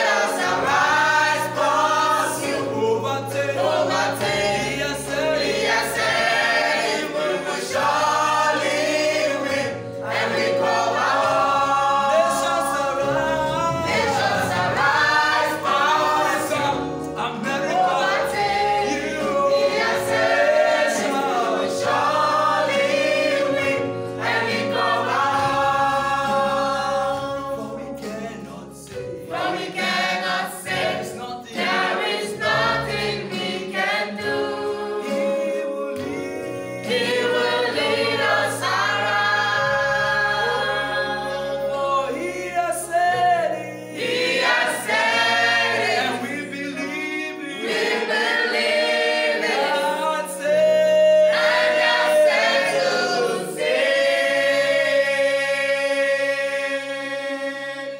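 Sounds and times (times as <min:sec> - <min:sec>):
choir singing in harmony: 0:00.0 - 0:57.9.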